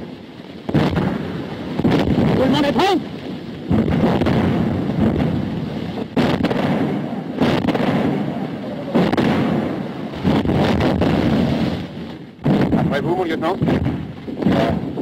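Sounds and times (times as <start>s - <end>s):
artillery shells bursting: 0.0s - 15.0s.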